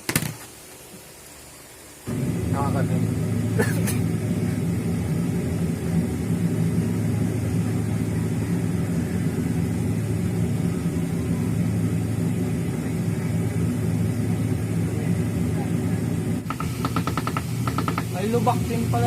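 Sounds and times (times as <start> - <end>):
airliner engines droning: 2.1 - 19.0.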